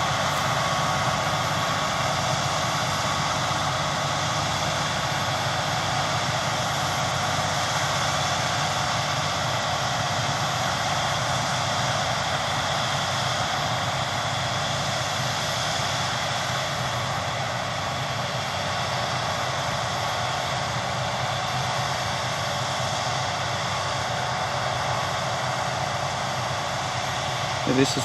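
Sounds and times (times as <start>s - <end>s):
combine harvester drone: 0.0s - 28.0s.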